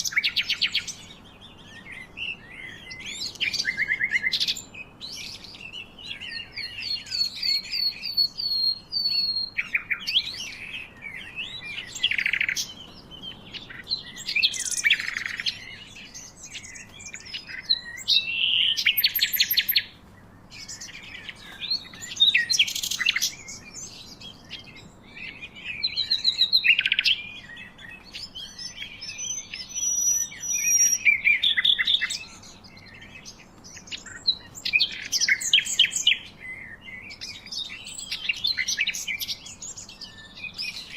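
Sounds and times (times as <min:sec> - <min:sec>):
birds chirping and trilling: 0:00.0 - 0:40.9.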